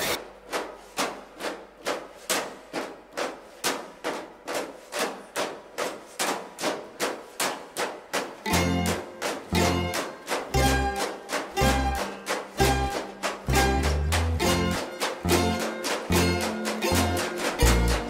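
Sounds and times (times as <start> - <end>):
percussion beat of sharp clicks: 0.0 - 18.0.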